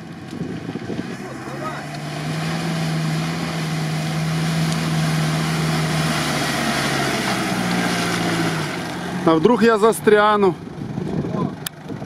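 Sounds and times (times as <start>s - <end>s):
engine pulling through mud: 0.0s - 12.0s.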